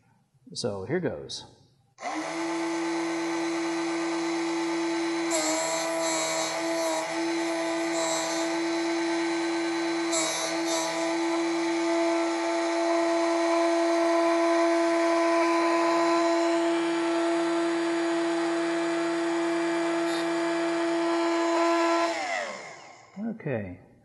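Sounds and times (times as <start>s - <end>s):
electric rotary grinder whining: 2.0s - 23.2s.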